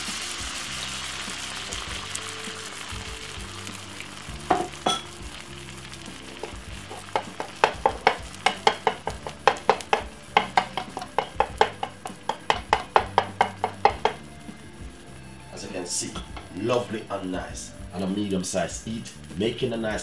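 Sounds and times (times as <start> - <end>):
omelette sizzling in oil: 0.0 - 20.0.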